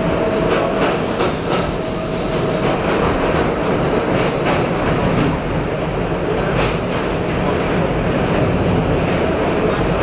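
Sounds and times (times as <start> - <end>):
rail clacks: 0.0 - 10.0
train wheels rumbling on track: 0.0 - 10.0.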